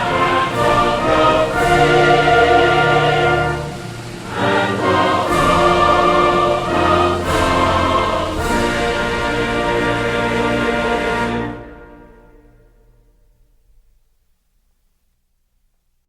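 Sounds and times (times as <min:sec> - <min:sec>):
orchestral music with choir: 0:00.0 - 0:13.5.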